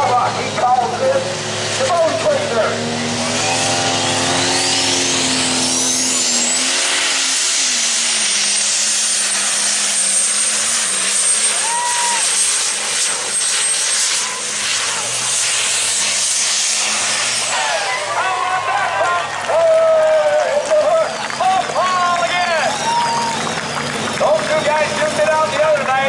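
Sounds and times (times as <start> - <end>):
diesel tractor engine under load: 0.0 - 26.0
turbocharger whistle: 1.8 - 19.0, 19.6 - 25.6.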